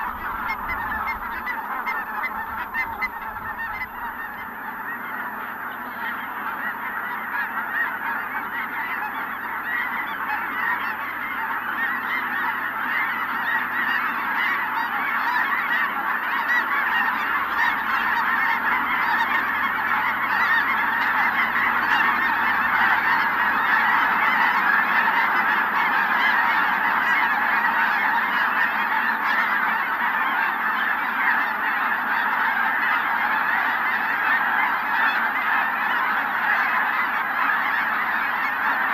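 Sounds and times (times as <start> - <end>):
geese honking: 0.0 - 38.9.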